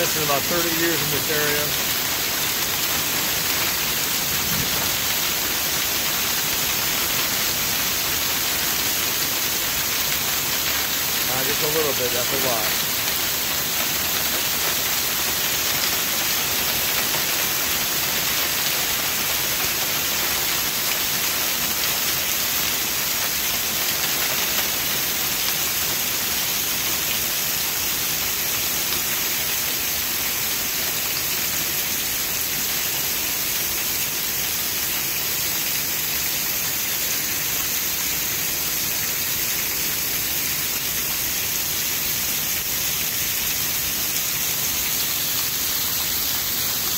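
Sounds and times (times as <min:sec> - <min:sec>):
hail and rain clattering: 0:00.0 - 0:41.6.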